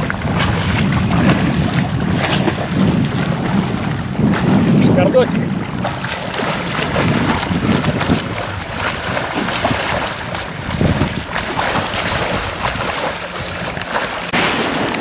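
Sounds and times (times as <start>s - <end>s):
swimmer splashing in water: 0.0s - 15.0s
wind buffeting microphone: 0.0s - 15.0s.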